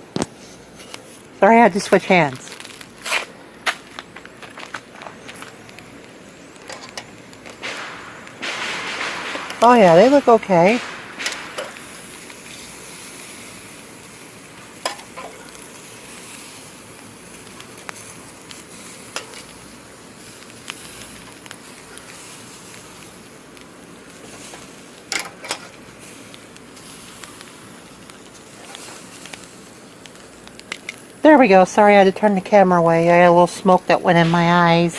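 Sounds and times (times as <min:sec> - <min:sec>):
sausages sizzling on a grill: 0:00.0 - 0:34.9.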